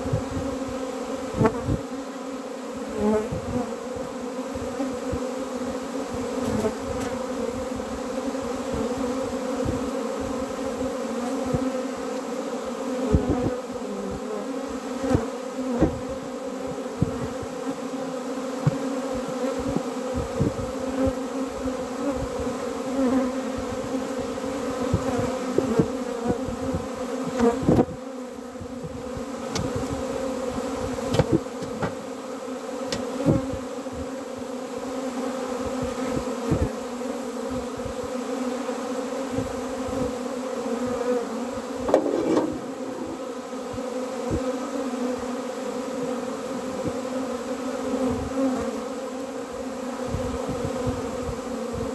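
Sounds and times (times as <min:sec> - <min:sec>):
honeybees buzzing: 0:00.0 - 0:51.9.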